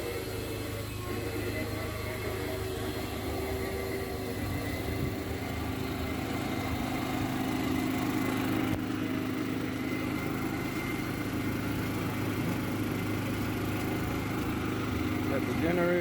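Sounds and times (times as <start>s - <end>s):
generator engine idling: 0.0s - 16.0s.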